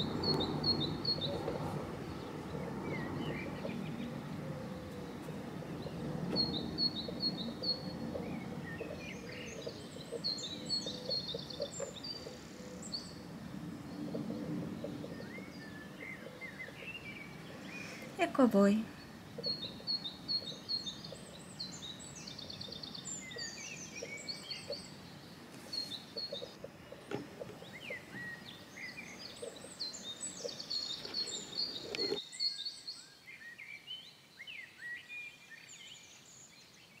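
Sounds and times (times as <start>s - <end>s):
low outdoor background noise: 0.0s - 37.0s
songbirds chirping and trilling: 0.0s - 37.0s.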